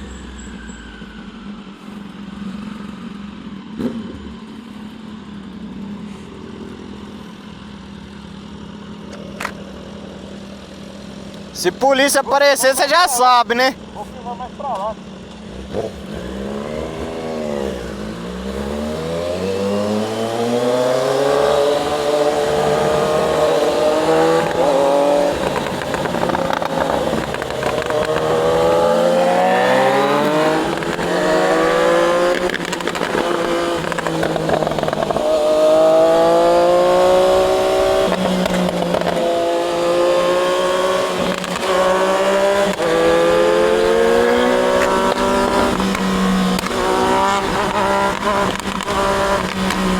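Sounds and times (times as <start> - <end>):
motorcycle engine accelerating: 0.0 - 12.4, 15.0 - 49.9.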